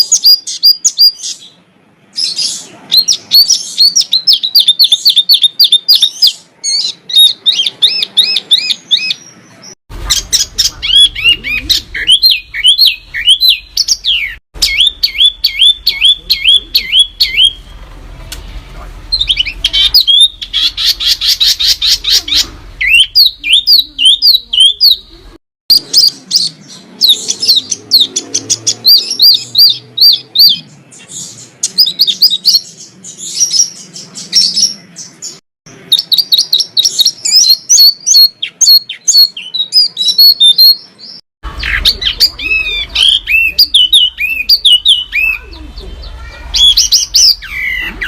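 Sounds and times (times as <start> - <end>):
songbirds chirping and whistling: 0.0 - 48.0.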